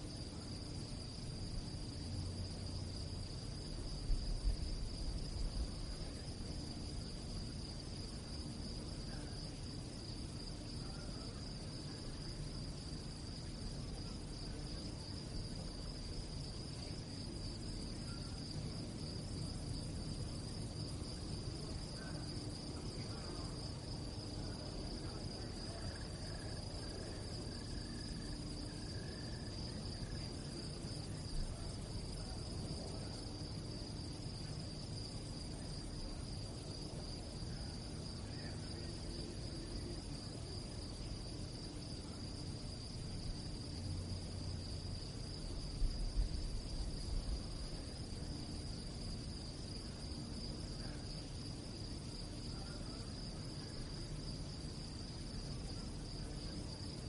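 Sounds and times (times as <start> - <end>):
crickets chirping: 0.0 - 57.0
low background rumble: 0.0 - 57.0.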